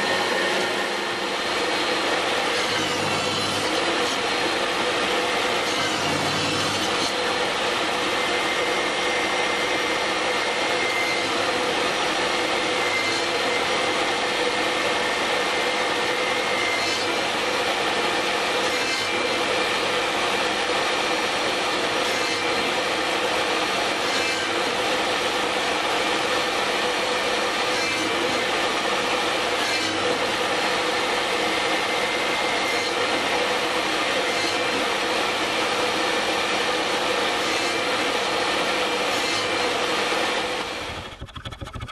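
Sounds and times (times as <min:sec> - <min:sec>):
table saw running: 0:00.0 - 0:41.9.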